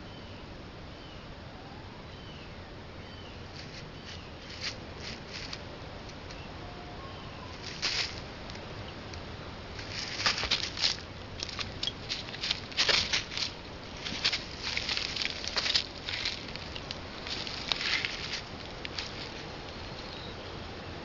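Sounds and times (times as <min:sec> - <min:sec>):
dry leaves rustling: 0:03.4 - 0:20.7.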